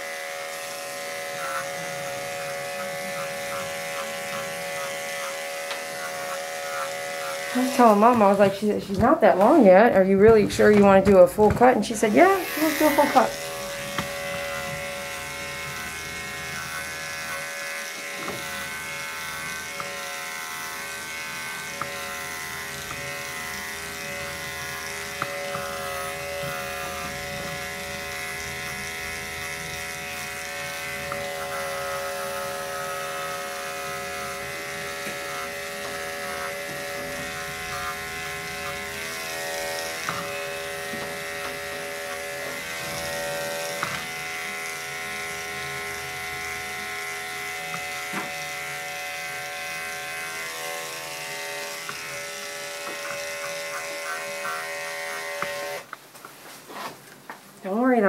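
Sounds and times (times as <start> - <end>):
electric clippers buzzing: 0.0 - 56.0.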